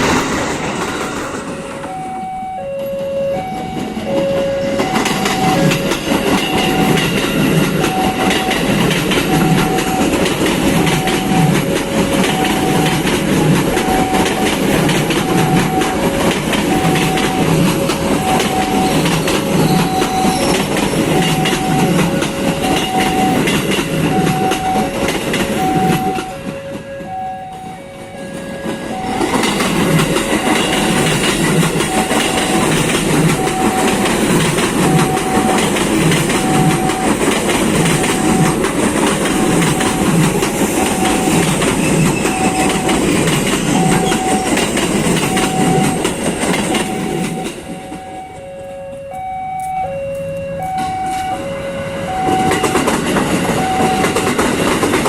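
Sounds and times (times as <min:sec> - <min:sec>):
train wheels clattering: 0:00.0 - 0:02.1, 0:03.6 - 0:26.9, 0:28.6 - 0:48.1, 0:52.2 - 0:55.0
two-pitched warning signal beeps: 0:01.9 - 0:26.4, 0:27.0 - 0:34.1, 0:34.8 - 0:38.7, 0:40.8 - 0:43.0, 0:43.6 - 0:46.1, 0:46.7 - 0:52.9, 0:53.5 - 0:54.4.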